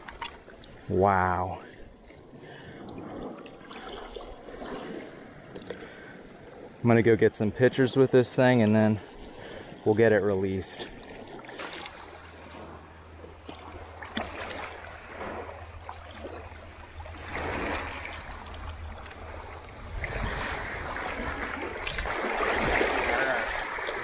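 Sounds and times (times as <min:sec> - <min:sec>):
shallow water splashing: 0:00.0 - 0:06.8, 0:07.4 - 0:24.0.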